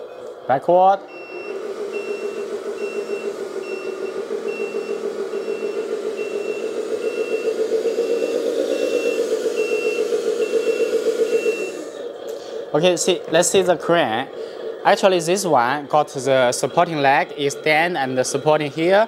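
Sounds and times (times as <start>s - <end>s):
diesel engine hum: 0.0s - 19.0s
reversing beeper: 1.0s - 19.0s.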